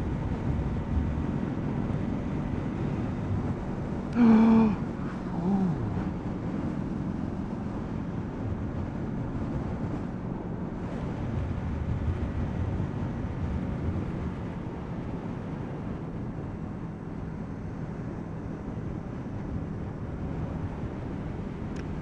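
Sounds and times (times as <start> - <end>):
motorcycle engine drone: 0.0 - 22.0
wind rushing over microphone: 0.0 - 22.0.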